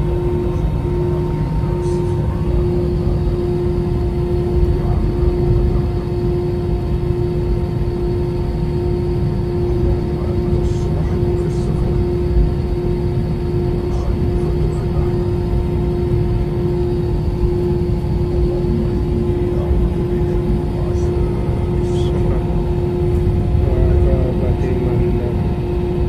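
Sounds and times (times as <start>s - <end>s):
jet engines droning: 0.0s - 26.0s.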